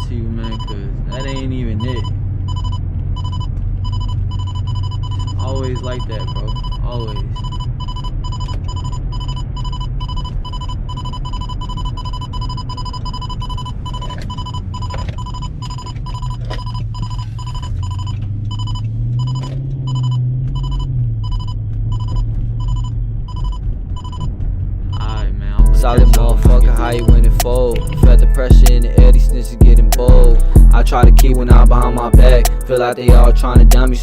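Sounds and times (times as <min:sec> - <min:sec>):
radar detector beeping: 0:00.0 - 0:24.3, 0:24.9 - 0:33.8
car engine and road drone: 0:00.0 - 0:34.0.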